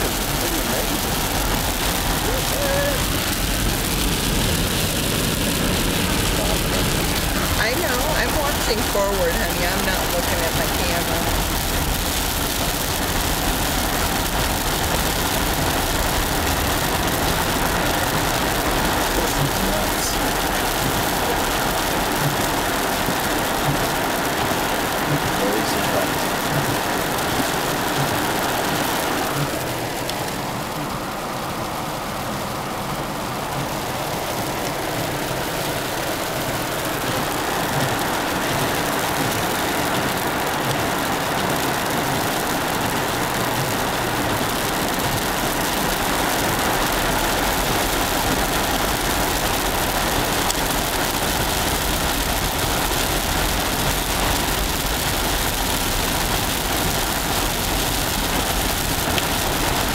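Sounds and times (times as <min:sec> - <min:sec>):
car engine and tyre noise: 0:00.0 - 0:59.9
hail and rain on car: 0:00.0 - 0:59.9.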